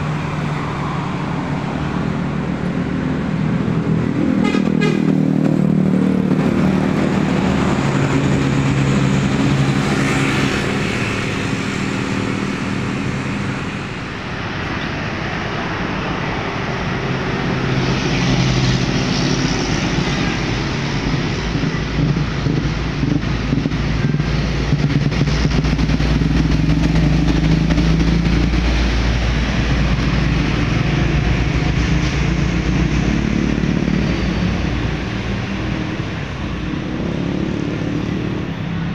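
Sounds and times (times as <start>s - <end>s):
bus engine: 0.0s - 38.9s
motorcycles passing: 0.0s - 38.9s
truck engine rumble: 0.0s - 38.9s.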